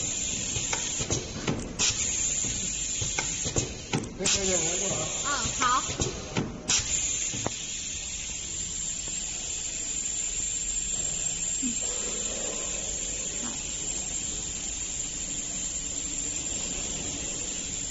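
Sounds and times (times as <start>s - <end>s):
steady hiss: 0.0s - 17.9s.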